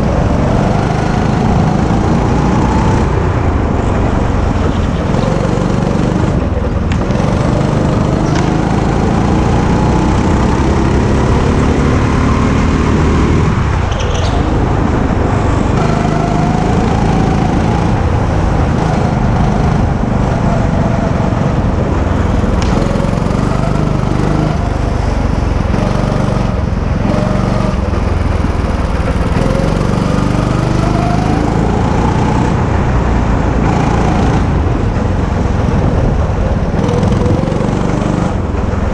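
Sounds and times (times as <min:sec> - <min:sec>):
go-kart engine: 0:00.0 - 0:38.9.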